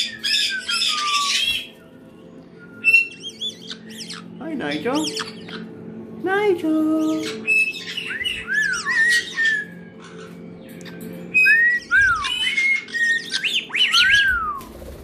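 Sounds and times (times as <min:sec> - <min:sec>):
parrots squawking: 0:00.0 - 0:01.8, 0:02.8 - 0:05.8, 0:07.0 - 0:14.3
parrots whistling: 0:00.0 - 0:01.9, 0:02.6 - 0:05.8, 0:07.2 - 0:14.6.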